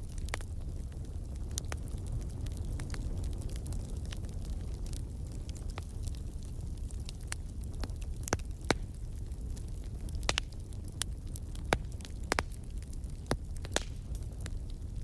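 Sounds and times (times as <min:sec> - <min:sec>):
low rumble of fire: 0:00.0 - 0:15.0
sharp pops from fire: 0:00.0 - 0:15.0
wood fire crackling: 0:00.0 - 0:15.0.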